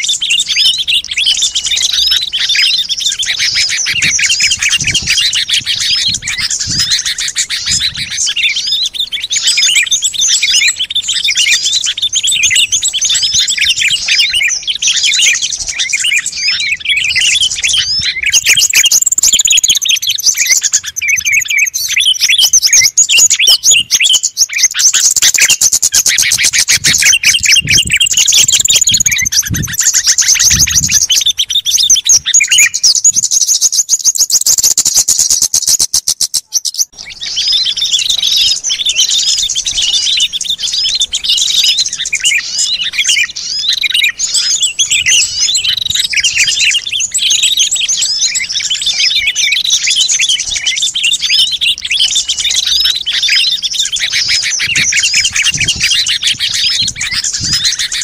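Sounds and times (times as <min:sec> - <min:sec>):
chorus of bird chirps: 0:00.0 - 0:58.0
fast repeated bird notes: 0:00.0 - 0:58.0.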